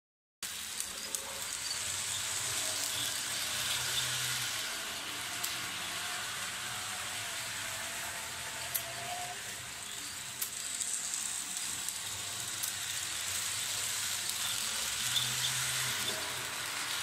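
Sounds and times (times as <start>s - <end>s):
model locomotive motor whirring: 0.4s - 17.0s.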